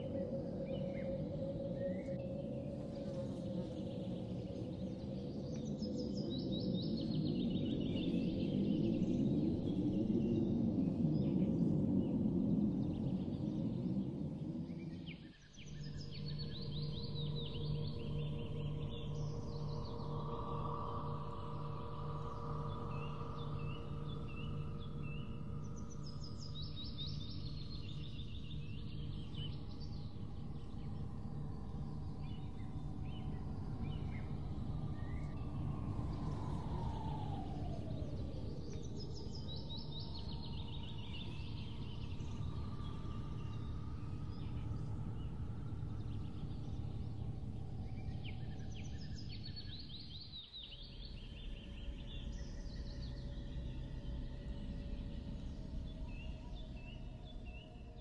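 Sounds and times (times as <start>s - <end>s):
ambient drone with held tones: 0.0s - 58.0s.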